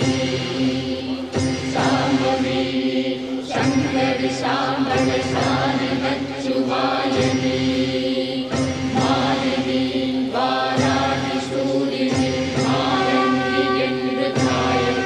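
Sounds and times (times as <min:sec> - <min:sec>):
steady held drone: 0:00.0 - 0:15.0
voices chanting: 0:00.0 - 0:15.0.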